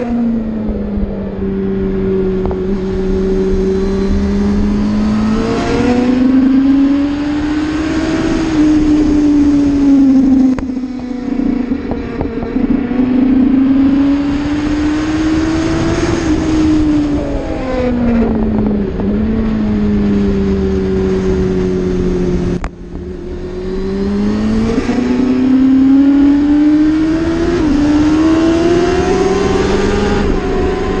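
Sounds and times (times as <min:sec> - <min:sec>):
motorcycle engine accelerating: 0:00.0 - 0:31.0
wind noise: 0:00.0 - 0:31.0.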